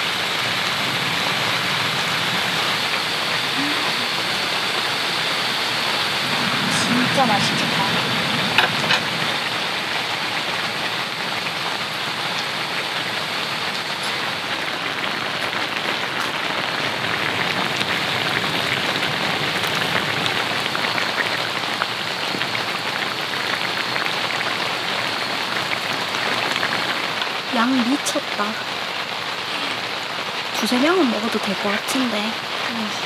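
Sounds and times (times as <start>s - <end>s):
rain falling on a tent: 0.0s - 33.0s
raindrop ticks: 6.2s - 33.0s.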